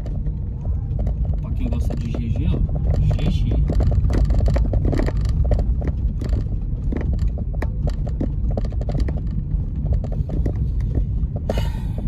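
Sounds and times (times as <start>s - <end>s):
car engine and road rumble: 0.0s - 12.0s
small clicks and rattles: 0.0s - 12.0s.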